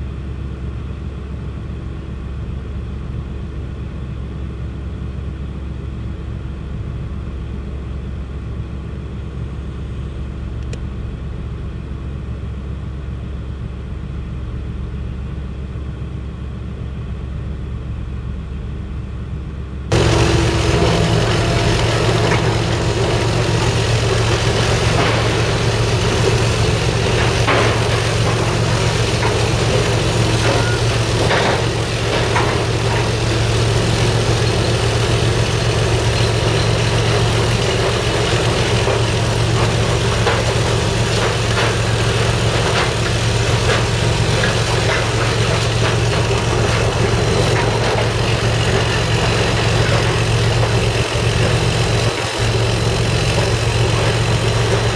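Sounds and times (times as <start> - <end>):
large engine idling: 0.0 - 54.9.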